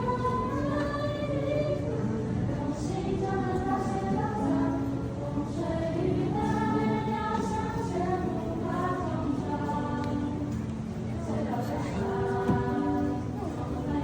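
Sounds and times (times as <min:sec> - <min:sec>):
background music: 0:00.0 - 0:14.0
choir singing sustained notes: 0:00.0 - 0:14.0.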